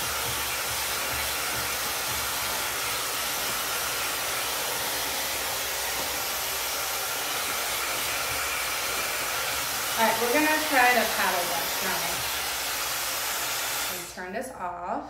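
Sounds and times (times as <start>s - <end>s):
blow dryer brush running: 0.0s - 14.4s.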